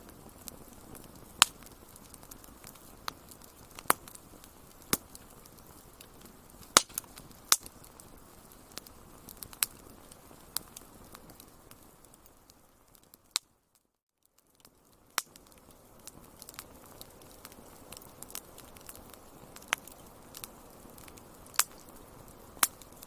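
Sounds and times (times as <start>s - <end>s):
soft steady hiss: 0.0s - 23.0s
wood fire crackling and popping: 0.0s - 23.0s.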